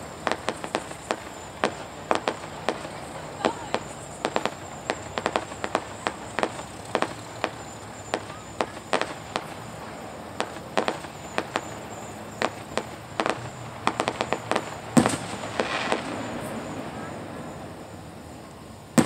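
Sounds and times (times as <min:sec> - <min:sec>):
distant fireworks bursting: 0:00.0 - 0:19.0
steady background hiss: 0:00.0 - 0:19.0.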